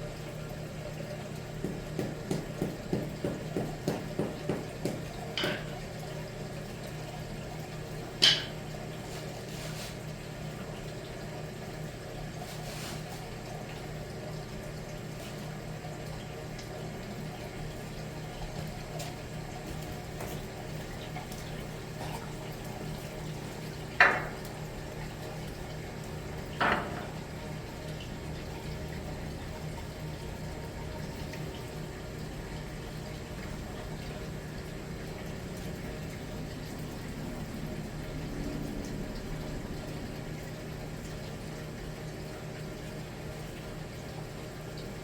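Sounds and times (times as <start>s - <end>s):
water running in a boiler: 0.0s - 45.0s.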